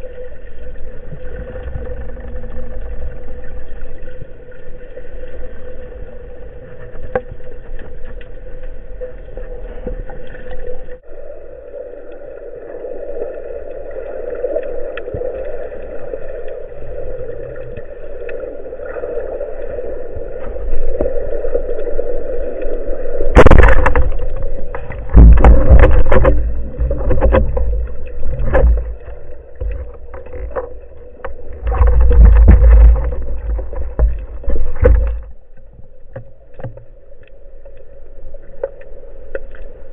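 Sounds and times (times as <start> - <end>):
underwater moving water: 0.0 - 39.9
waves breaking underwater: 0.0 - 39.9.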